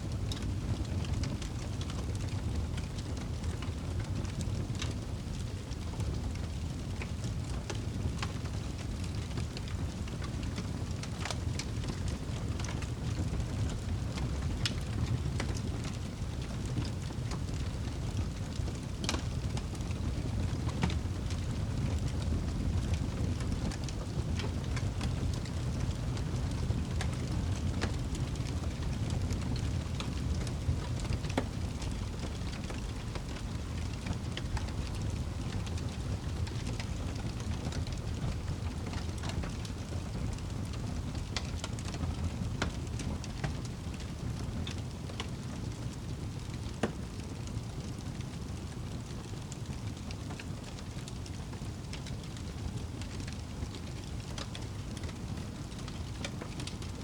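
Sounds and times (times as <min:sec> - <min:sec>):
fire crackling and popping: 0:00.1 - 0:57.0
fire flames rushing: 0:00.2 - 0:56.9.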